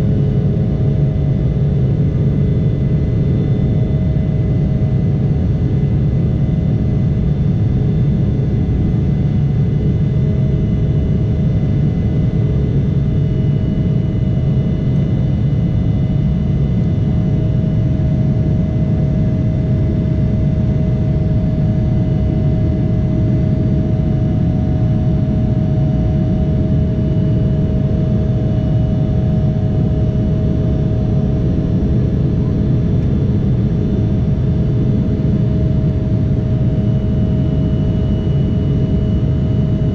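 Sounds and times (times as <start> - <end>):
engine whine: 0.0 - 39.9.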